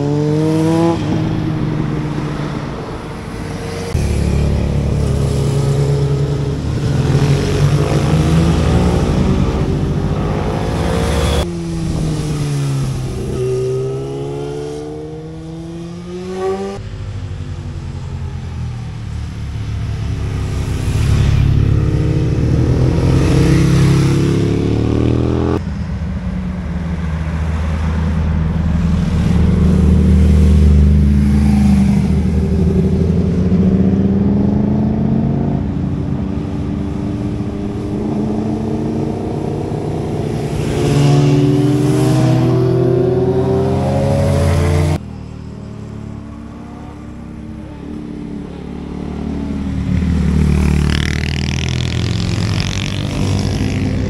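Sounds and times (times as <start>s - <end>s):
motorcycles and cars passing: 0.0s - 54.0s.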